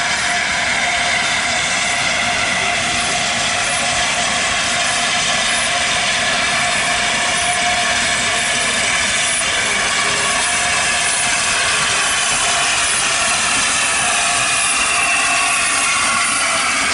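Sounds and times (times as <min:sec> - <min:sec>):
faint high squeal: 0:00.0 - 0:16.9
train wheels rolling on rails: 0:00.0 - 0:16.9.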